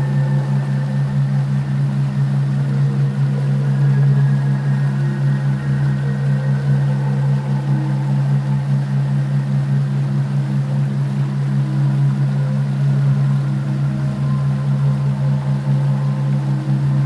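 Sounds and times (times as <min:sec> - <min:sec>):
faint higher tones: 0:00.0 - 0:17.0
loud pulsing low drone: 0:00.0 - 0:17.0.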